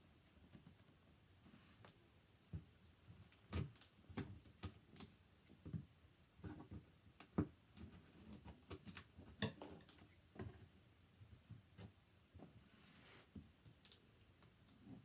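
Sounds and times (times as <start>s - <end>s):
rustling tape and cardboard: 0.0s - 15.0s.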